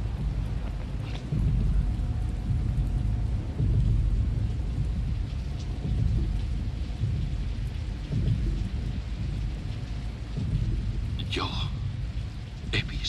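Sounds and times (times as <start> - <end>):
steady rain falling: 0.0 - 13.0
thunder rumbling: 0.0 - 13.0.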